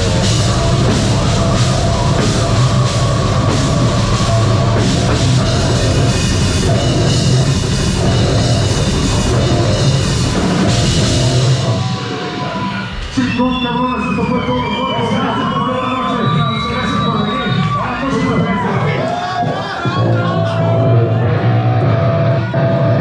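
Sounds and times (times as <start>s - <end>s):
distorted guitars and bass: 0.0s - 23.0s
pounding drum kit: 0.0s - 23.0s.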